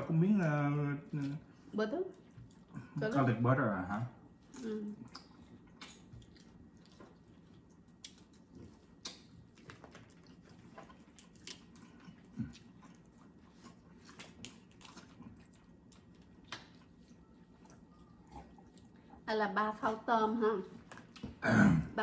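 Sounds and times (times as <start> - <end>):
chewing: 0.5 - 3.4, 4.4 - 19.3, 20.7 - 21.4.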